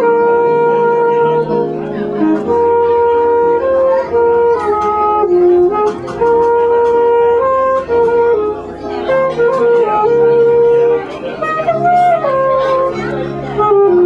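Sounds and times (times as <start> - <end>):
alto saxophone jazz melody: 0.0 - 14.0
electronic keyboard chords and bass: 0.0 - 14.0.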